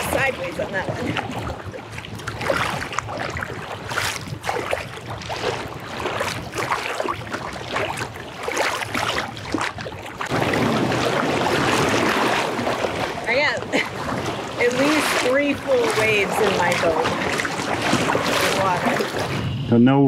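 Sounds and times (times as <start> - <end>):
water splashing against hull: 0.0 - 19.7
wind buffeting microphone: 0.0 - 19.7.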